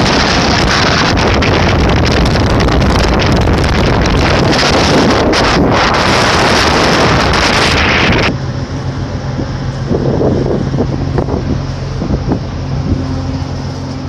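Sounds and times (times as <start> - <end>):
wind buffeting microphone: 0.0 - 8.4, 9.0 - 14.0
ship engines droning: 0.0 - 14.0.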